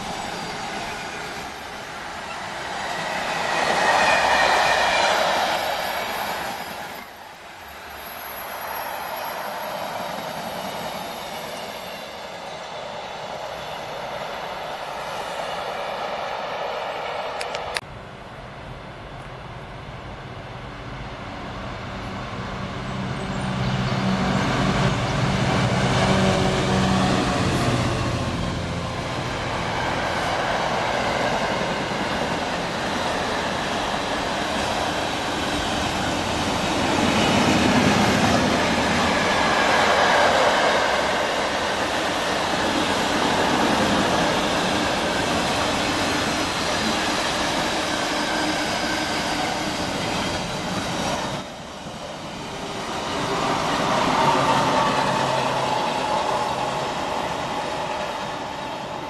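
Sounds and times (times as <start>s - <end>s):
train wheels on rail: 0.0s - 59.0s.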